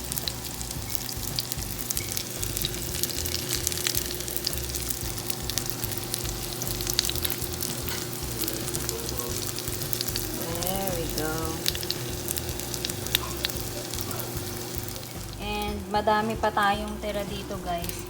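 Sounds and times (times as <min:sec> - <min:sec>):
fritters frying in hot oil: 0:00.0 - 0:15.8.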